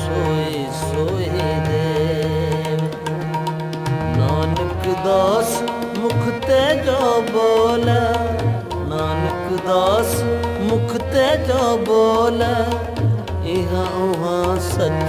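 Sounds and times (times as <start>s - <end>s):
tabla: 0.0s - 15.0s.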